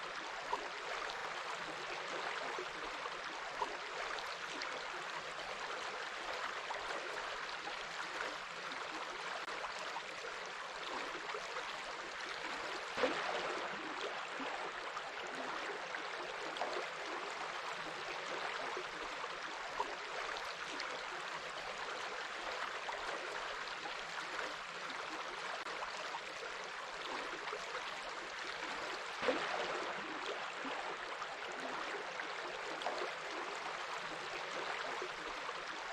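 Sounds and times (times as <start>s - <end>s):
stream running: 0.0s - 35.9s.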